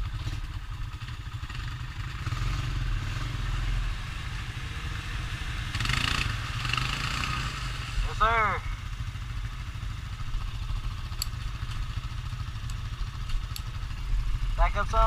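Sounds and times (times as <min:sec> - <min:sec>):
engine clatter: 0:00.0 - 0:03.7, 0:05.6 - 0:15.0
atv engine running: 0:00.0 - 0:15.0.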